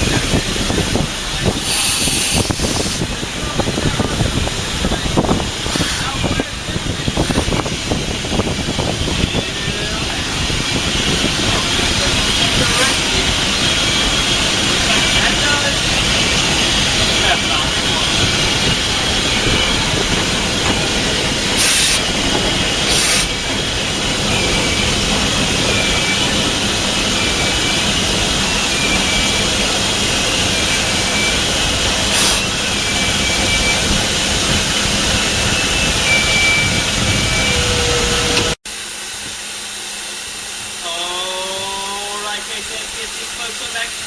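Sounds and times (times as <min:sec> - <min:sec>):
steam locomotive running noise: 0:00.0 - 0:44.0.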